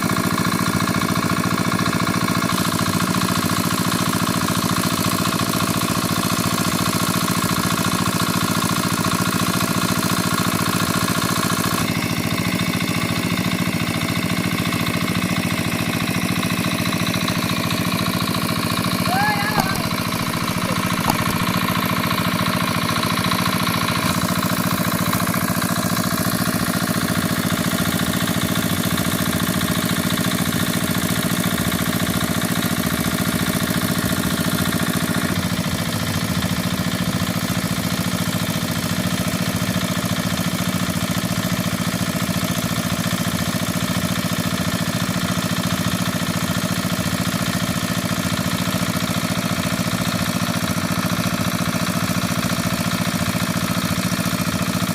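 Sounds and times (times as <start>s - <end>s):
engine chugging steadily: 0.0s - 54.9s.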